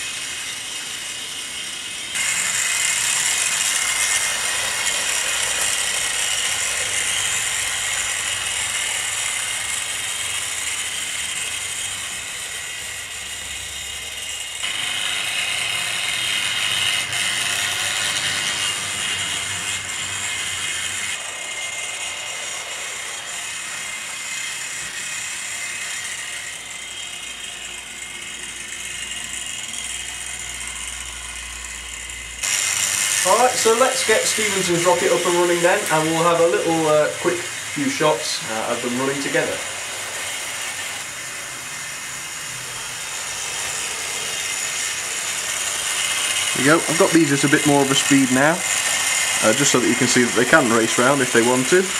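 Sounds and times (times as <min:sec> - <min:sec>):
small electric motors whirring: 0:00.0 - 0:51.9.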